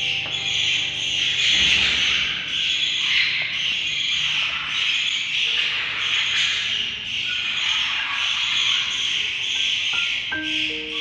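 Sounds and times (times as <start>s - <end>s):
budgies chattering: 0.0s - 11.0s.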